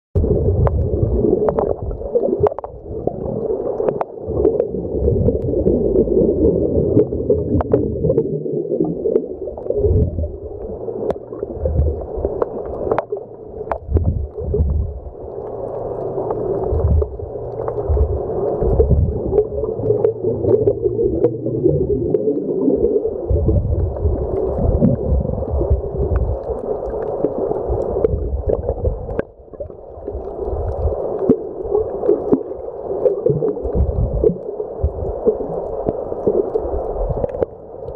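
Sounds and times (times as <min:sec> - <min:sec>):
underwater rush and gurgle: 0:00.2 - 0:37.9.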